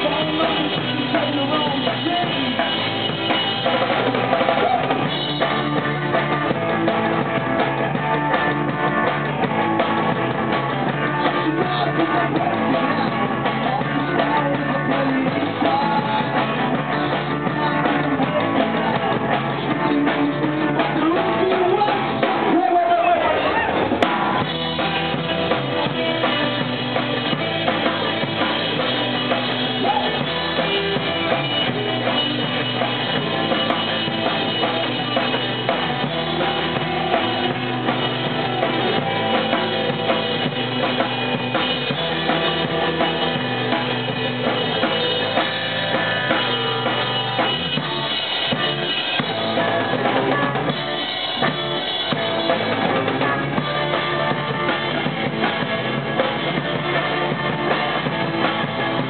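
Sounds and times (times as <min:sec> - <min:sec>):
bass drum and snare beat: 0:00.0 - 0:59.0
live rock band playing: 0:00.0 - 0:59.0.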